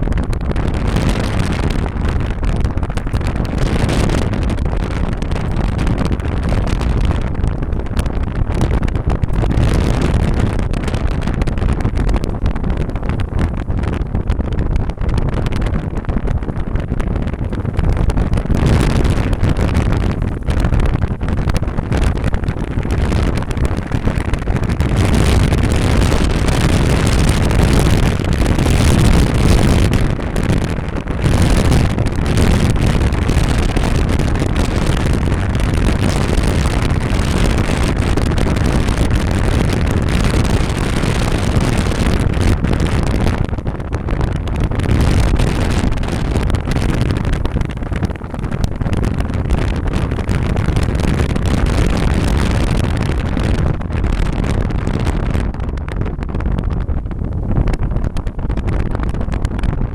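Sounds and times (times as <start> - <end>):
car driving rumble: 0.0 - 55.1.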